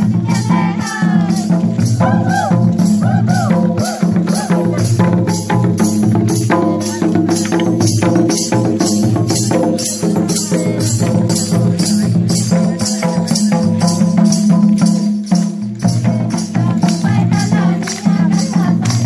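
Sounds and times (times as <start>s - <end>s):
barrel drums beating: 0.0s - 19.0s
jingling percussion: 0.0s - 19.0s.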